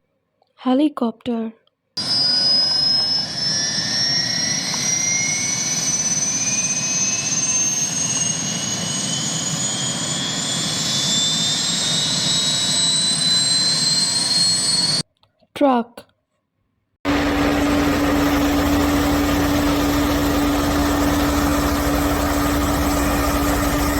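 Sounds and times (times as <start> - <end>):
helicopter turbine whine: 2.0 - 15.0, 17.1 - 23.9
rushing helicopter engine noise: 2.0 - 15.0, 17.1 - 23.9.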